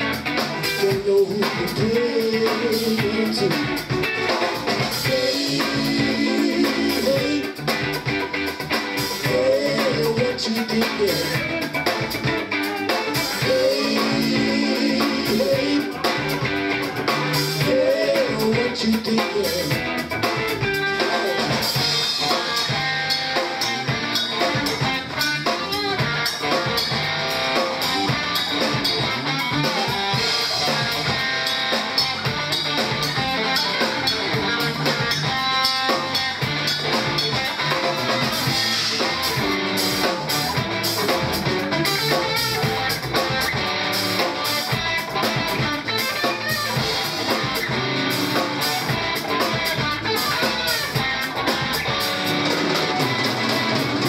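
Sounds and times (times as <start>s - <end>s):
drum kit beat: 0.0s - 54.0s
guitar: 0.0s - 54.0s.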